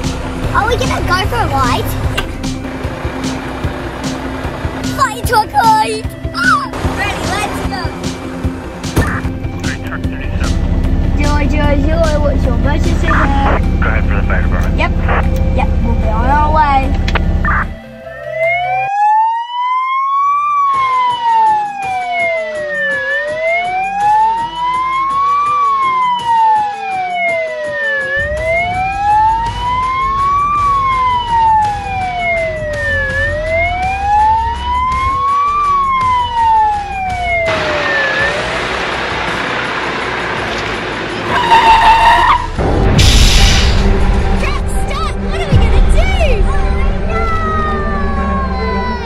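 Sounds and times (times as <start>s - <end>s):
low engine rumble: 0.0s - 18.5s, 28.2s - 49.0s
rushing noise of truck driving: 0.0s - 18.9s, 22.3s - 49.0s
fire truck siren wailing: 0.0s - 49.0s.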